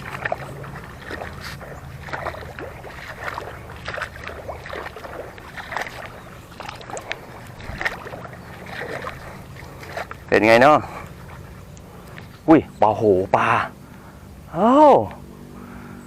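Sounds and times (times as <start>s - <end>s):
water splashing and sloshing: 0.0s - 14.1s
steady low rumble: 0.0s - 14.6s.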